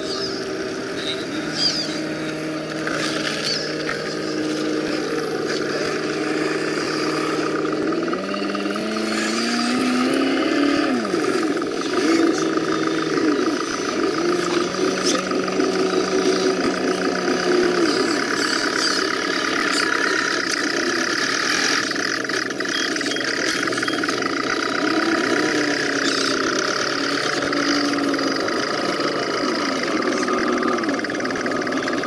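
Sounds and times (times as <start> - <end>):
rc truck motors whining: 0.0 - 32.0.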